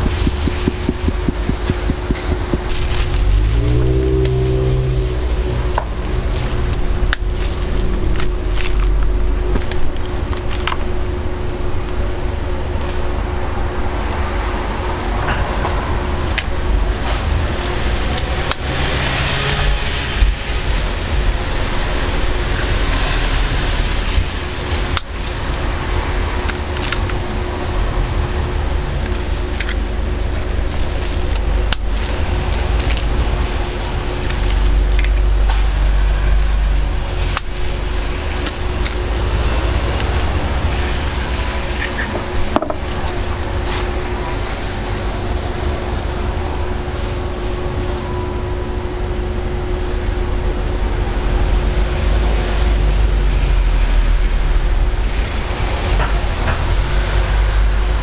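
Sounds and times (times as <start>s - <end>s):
low traffic rumble: 0.0s - 58.0s
steady hum: 0.0s - 58.0s.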